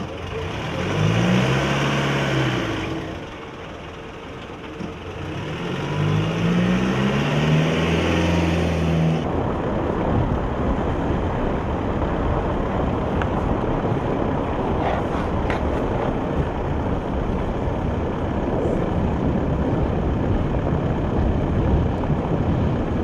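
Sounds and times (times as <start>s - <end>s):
road and wind rush: 0.0s - 23.0s
vehicle engine accelerating: 0.0s - 23.0s.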